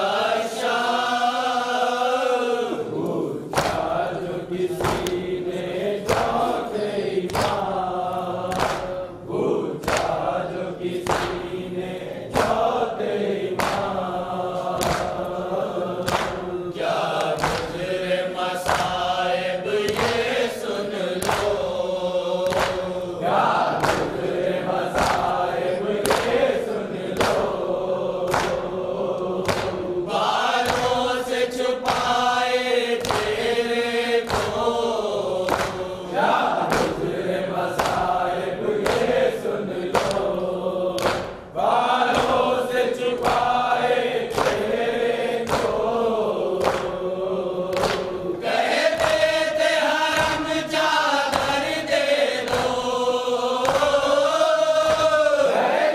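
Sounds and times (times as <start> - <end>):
lead reciter: 0.0 - 55.9
men chanting in unison: 0.0 - 55.9
rhythmic chest-beating slaps: 0.0 - 55.9.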